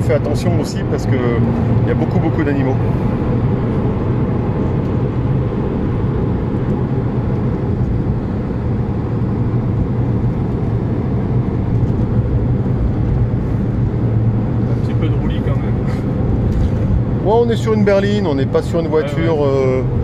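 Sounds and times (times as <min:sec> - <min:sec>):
car engine low hum: 0:00.0 - 0:20.0
tyre and road noise: 0:00.0 - 0:20.0.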